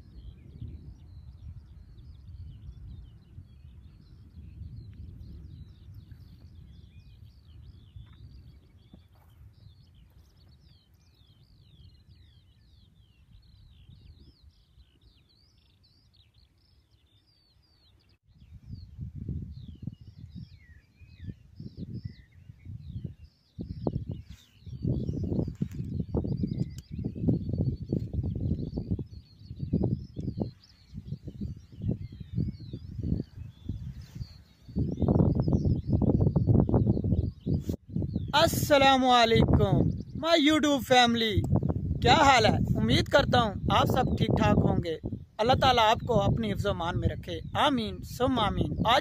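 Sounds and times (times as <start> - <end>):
small birds chirping: 0.0 - 49.0
wind rumbling on microphone: 0.0 - 49.0.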